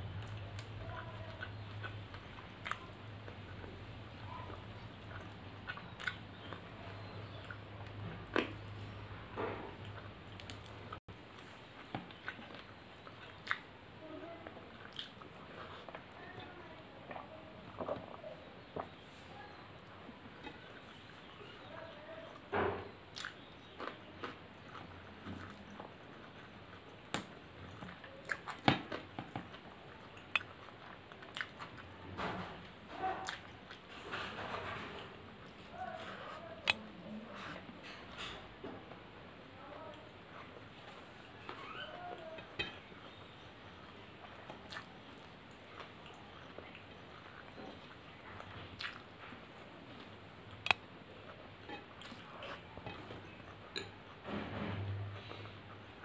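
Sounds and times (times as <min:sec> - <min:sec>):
wet chewing: 0:00.0 - 0:16.4, 0:17.0 - 0:32.0, 0:32.6 - 0:38.4, 0:39.9 - 0:54.2.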